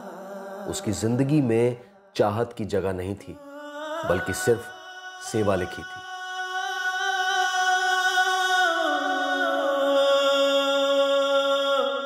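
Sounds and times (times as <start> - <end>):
voice singing chant-like note: 0.0 - 2.5, 3.2 - 12.0.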